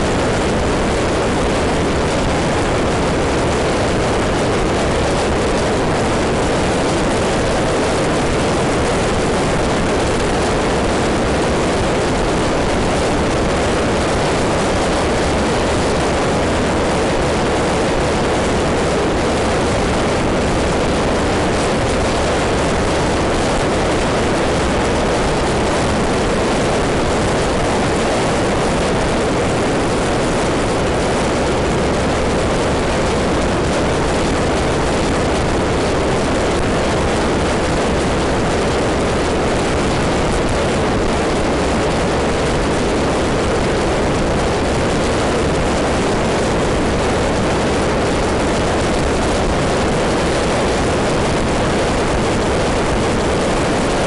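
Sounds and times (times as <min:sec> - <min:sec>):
scooter engine and wind roar: 0:00.0 - 0:54.0.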